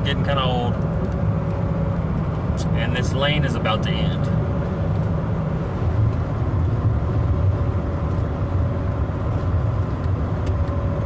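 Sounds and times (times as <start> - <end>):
car engine drone in cabin: 0.0 - 11.0
tyre and road noise: 0.0 - 11.0.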